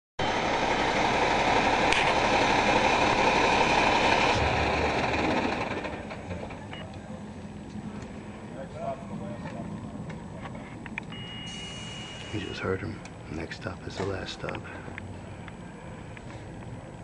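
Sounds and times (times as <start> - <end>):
fire truck engine and tyres: 0.2 - 17.0.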